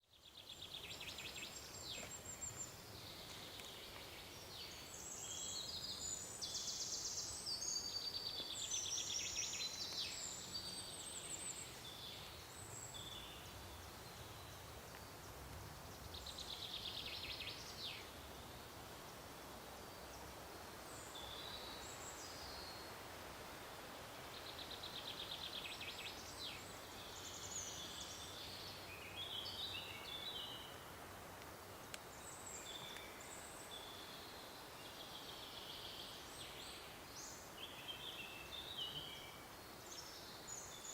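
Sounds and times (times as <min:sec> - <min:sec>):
forest ambience hiss: 0:00.0 - 0:40.9
songbirds chirping: 0:00.0 - 0:40.9.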